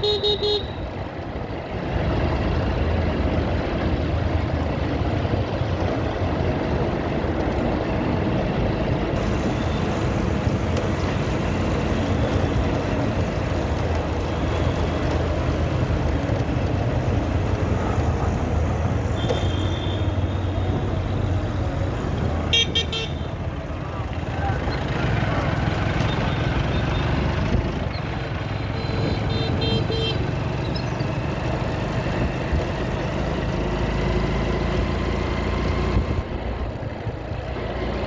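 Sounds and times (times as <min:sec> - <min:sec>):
wind and road noise: 0:00.0 - 0:38.0
motorcycle engine: 0:01.6 - 0:38.0.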